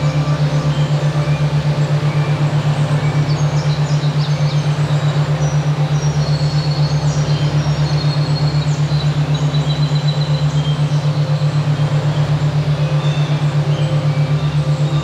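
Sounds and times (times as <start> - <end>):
pulsing low hum: 0.0 - 15.0.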